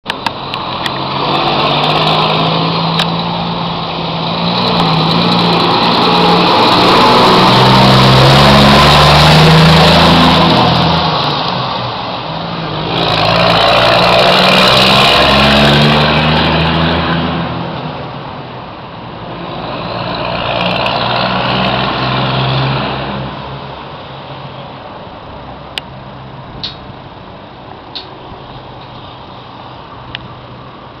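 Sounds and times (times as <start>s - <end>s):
diesel truck engine accelerating: 0.0s - 31.0s.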